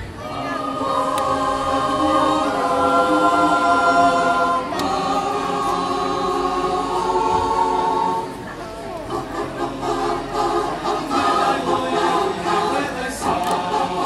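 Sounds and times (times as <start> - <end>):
mixed choir singing held chords: 0.0 - 14.0.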